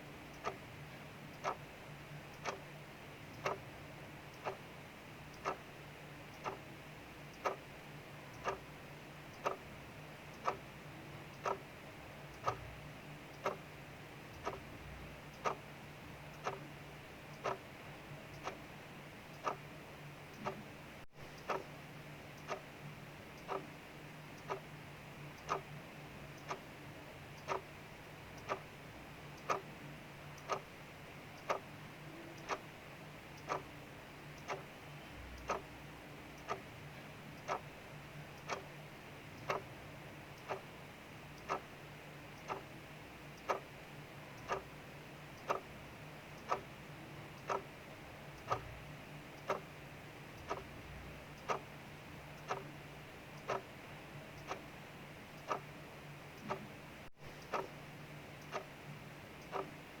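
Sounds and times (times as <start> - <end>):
clock ticking: 0.0 - 60.0.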